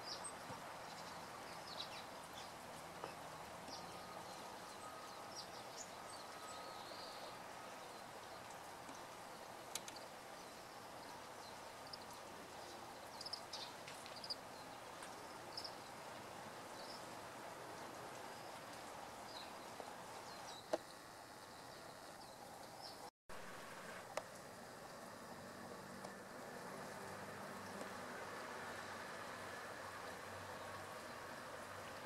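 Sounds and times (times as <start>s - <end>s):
faint outdoor ambience: 0.0s - 32.0s.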